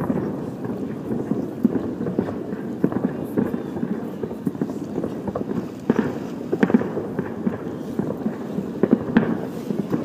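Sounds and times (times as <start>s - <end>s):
distant fireworks bursting: 0.0s - 10.0s.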